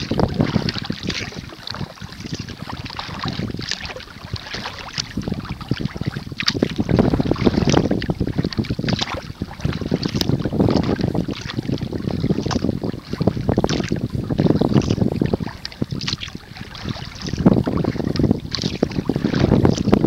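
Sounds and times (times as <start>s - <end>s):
paddle stroke splashes: 0.0s - 20.0s
water lapping at a kayak: 0.0s - 20.0s
wind buffeting microphone: 0.0s - 20.0s.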